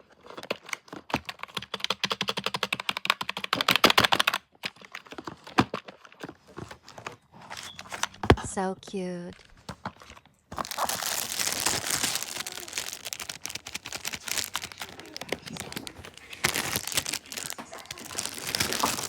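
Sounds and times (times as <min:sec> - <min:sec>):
packaging crinkling and rustling: 0:00.0 - 0:01.6, 0:03.6 - 0:08.5, 0:09.3 - 0:19.0.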